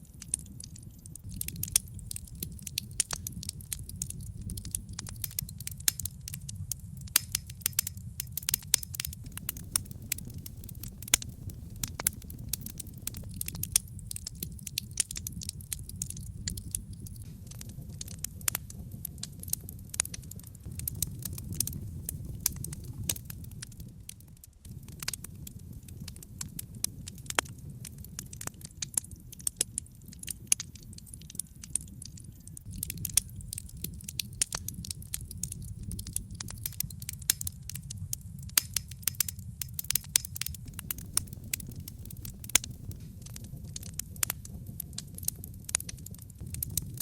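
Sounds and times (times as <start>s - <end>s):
low rumble of flames: 0.0s - 47.0s
wood crackling and popping: 0.0s - 47.0s.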